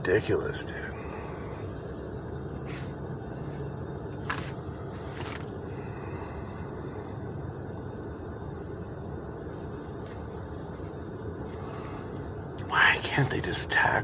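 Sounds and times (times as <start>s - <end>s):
low rumble inside car: 0.0s - 14.0s.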